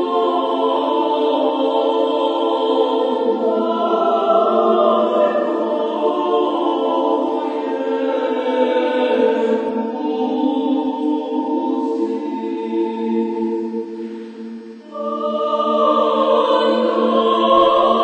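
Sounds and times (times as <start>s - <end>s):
group singing a cappella chant: 0.0s - 18.0s.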